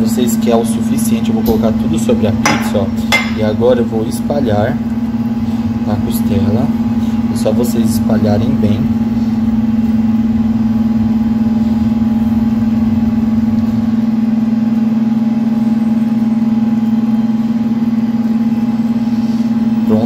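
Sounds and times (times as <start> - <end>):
low-pitched machine hum: 0.0 - 20.0.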